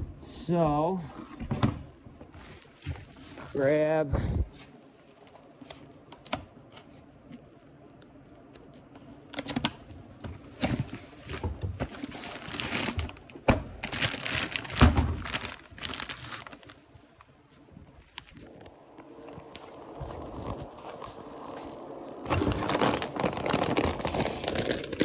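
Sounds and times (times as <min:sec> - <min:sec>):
plastic and cardboard crinkling: 0:04.5 - 0:25.0.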